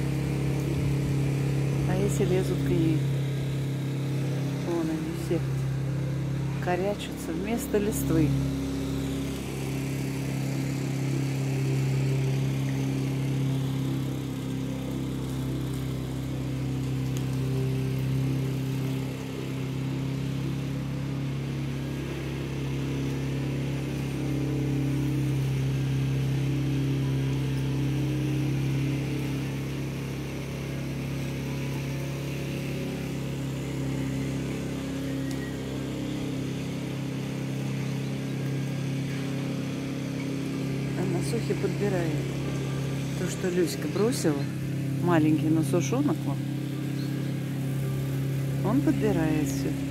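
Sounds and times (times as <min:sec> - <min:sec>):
engine humming: 0:00.0 - 0:49.9.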